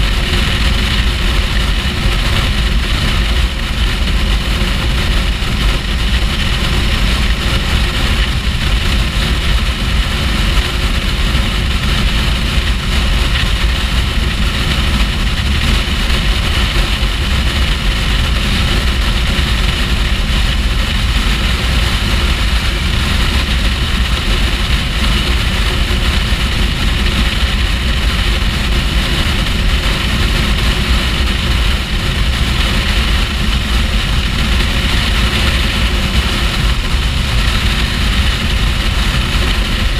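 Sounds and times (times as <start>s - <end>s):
motorcycle engine drone: 0.0s - 39.9s
wind rush: 0.0s - 39.9s.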